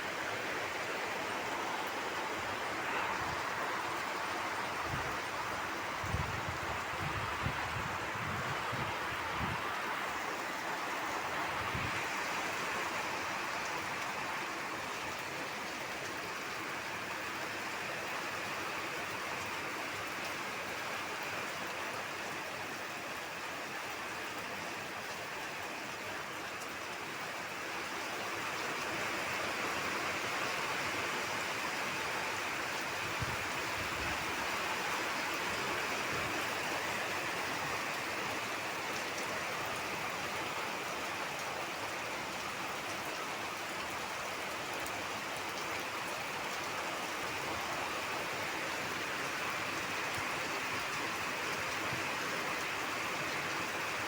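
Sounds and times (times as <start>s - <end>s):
heavy rain downpour: 0.0s - 54.0s.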